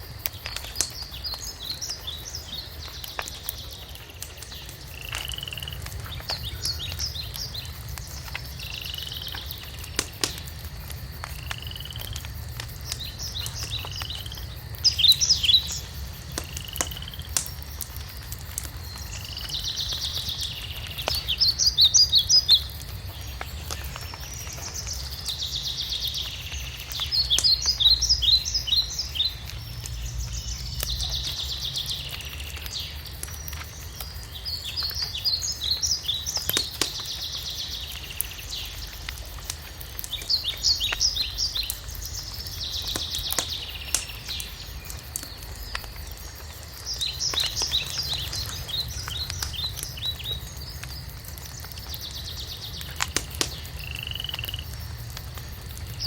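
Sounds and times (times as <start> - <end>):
fireplace crackling: 0.0 - 56.0.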